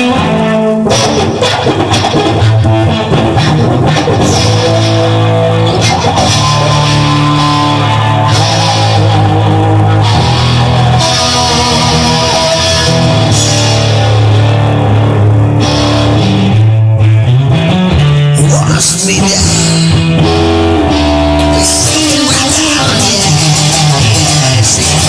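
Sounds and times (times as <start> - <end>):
instrumental rock music: 0.0 - 25.0.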